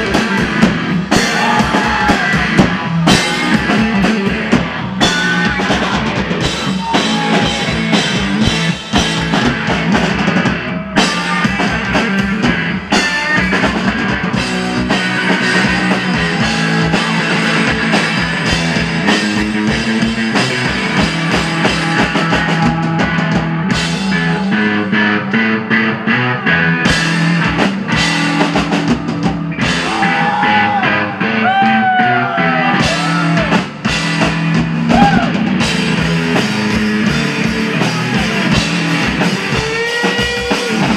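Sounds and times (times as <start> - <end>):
drum kit beating: 0.0 - 40.9
electric guitar: 0.0 - 40.9.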